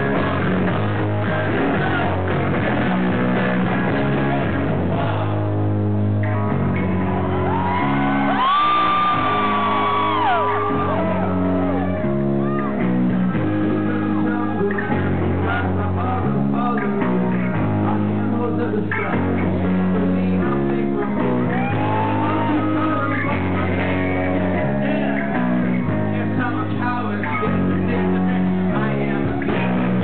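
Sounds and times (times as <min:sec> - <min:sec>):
electric guitars and bass: 0:00.0 - 0:30.0
male lead vocal: 0:00.0 - 0:30.0.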